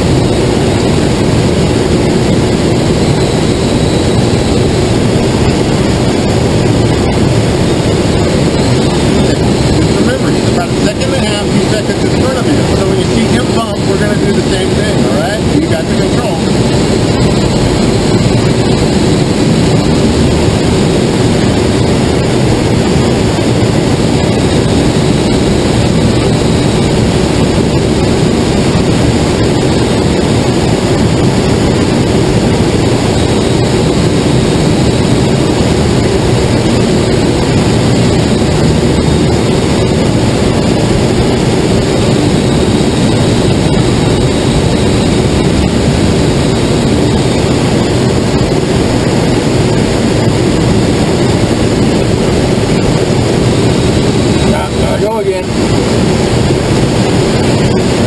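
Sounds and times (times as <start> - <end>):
loud rush of air in cockpit: 0.0 - 58.0.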